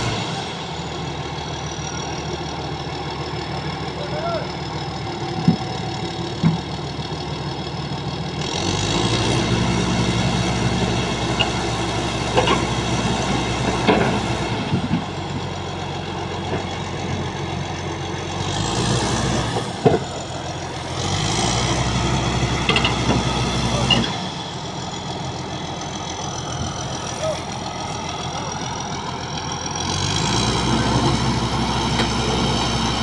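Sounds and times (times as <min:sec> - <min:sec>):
bulldozer diesel engine revving: 0:00.0 - 0:33.0.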